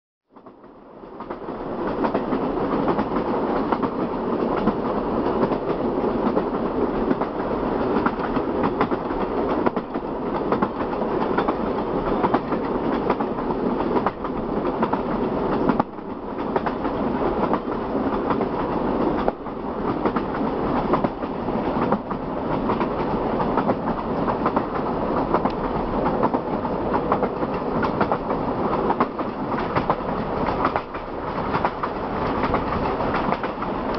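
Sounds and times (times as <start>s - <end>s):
train wheels clattering on rails: 0.3s - 33.9s.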